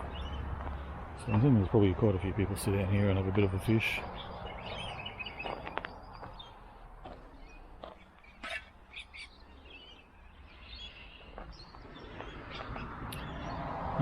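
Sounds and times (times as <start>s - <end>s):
birds chirping: 0.0s - 14.0s
faint outdoor background noise: 0.0s - 14.0s.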